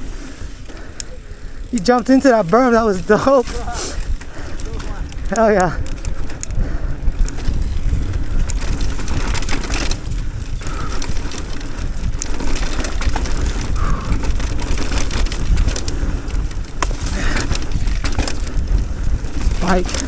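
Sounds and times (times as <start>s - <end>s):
bike clattering over bumps: 0.0s - 20.0s
bike tyres crunching over dirt: 0.0s - 20.0s
wind buffeting microphone: 0.0s - 20.0s.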